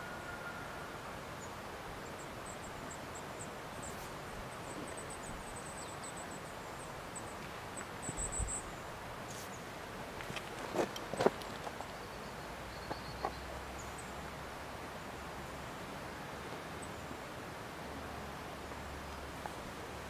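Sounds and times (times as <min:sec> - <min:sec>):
outdoor hiss: 0:00.0 - 0:20.0.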